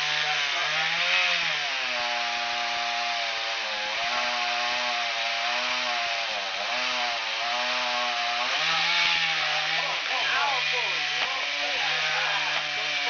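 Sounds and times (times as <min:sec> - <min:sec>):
chainsaw cutting through tree: 0:00.0 - 0:13.0.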